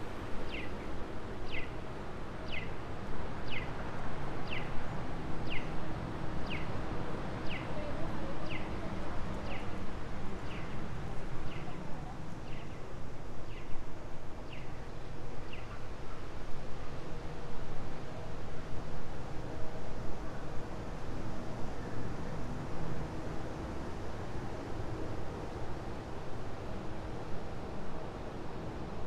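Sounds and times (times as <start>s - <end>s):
city street noise: 0.0s - 29.0s.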